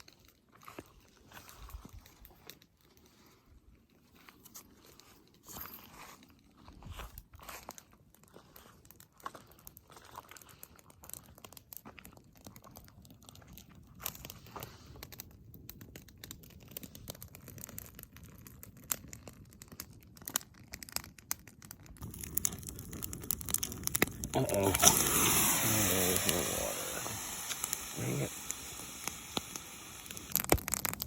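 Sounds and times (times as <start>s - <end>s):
crackling and crunching: 0.0s - 31.0s.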